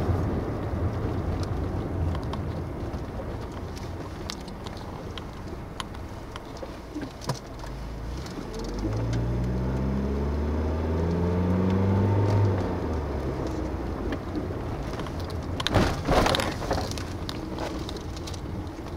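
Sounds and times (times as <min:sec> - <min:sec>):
car engine running: 0:00.0 - 0:18.9.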